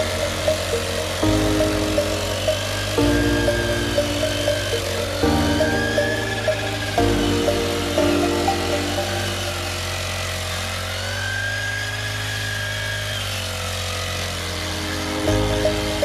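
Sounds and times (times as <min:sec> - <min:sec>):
small four-stroke engine running: 0:00.0 - 0:16.0.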